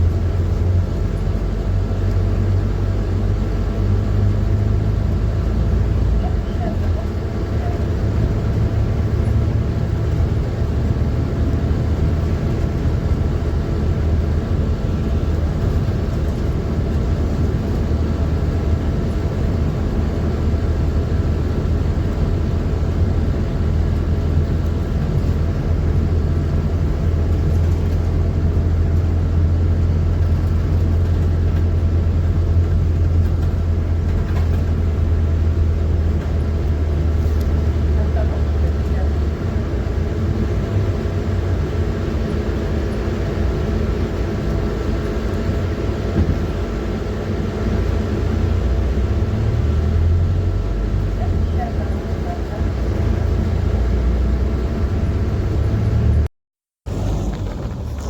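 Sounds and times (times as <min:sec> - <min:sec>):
bus diesel engine drone: 0:00.0 - 0:58.0
road and body noise: 0:00.0 - 0:58.0.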